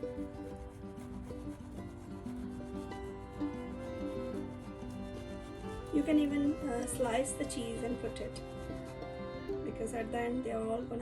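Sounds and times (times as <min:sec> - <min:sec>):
rubbing sound: 0:00.0 - 0:10.1
background music with held notes: 0:00.0 - 0:11.0.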